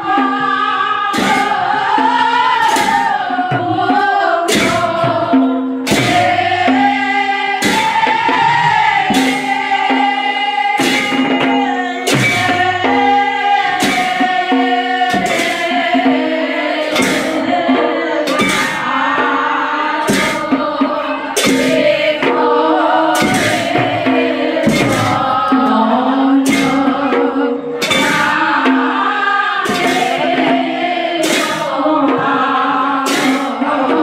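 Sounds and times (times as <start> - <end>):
group of voices singing: 0.0 - 34.0
sharp percussion strokes: 0.0 - 34.0.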